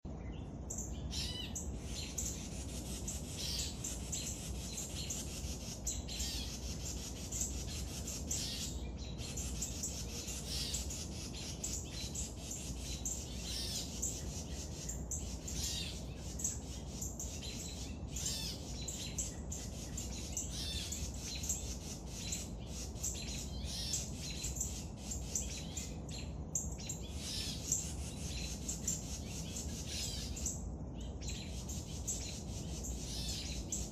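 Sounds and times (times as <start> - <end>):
birds chirping: 0.1 - 33.9
low background noise: 0.1 - 33.9.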